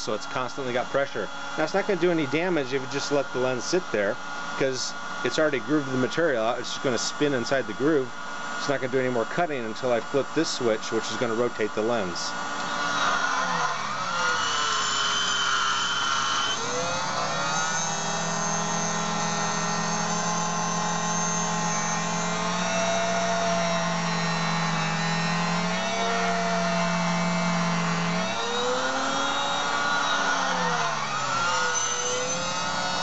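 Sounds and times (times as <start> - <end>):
lens grooving wheel whine: 0.6 - 33.0.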